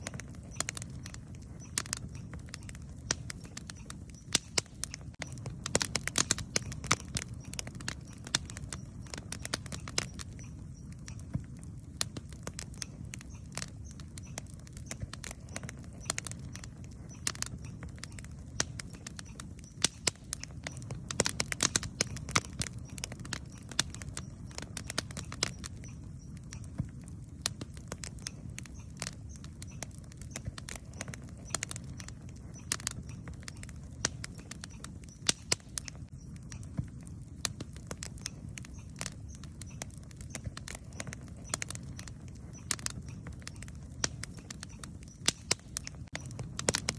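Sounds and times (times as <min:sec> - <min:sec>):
campfire low rumble: 0:00.0 - 0:46.9
wood crackling and popping: 0:00.0 - 0:46.9.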